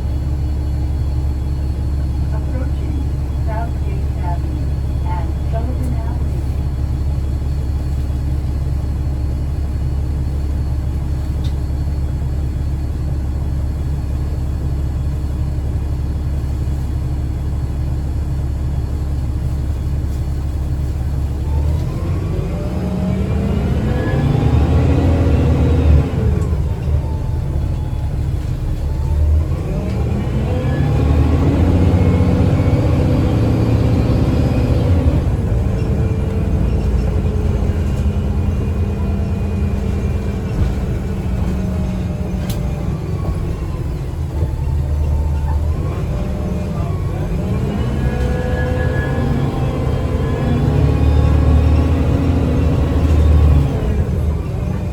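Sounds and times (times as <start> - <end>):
bus accelerating with whine: 0.0 - 54.9
bus engine idling: 0.0 - 54.9.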